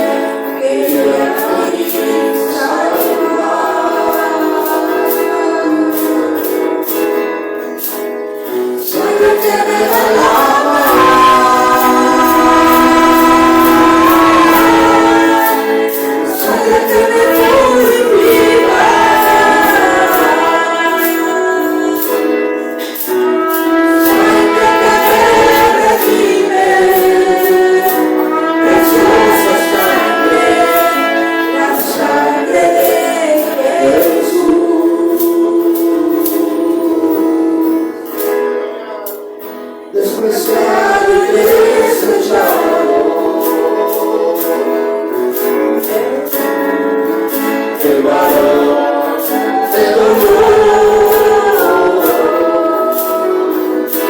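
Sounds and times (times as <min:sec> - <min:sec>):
congregation singing with band: 0:00.0 - 0:54.0.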